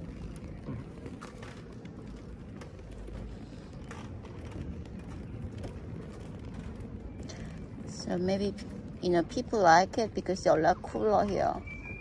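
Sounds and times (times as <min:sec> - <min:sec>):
wheelchair wheels rumbling on grating: 0:00.0 - 0:12.0.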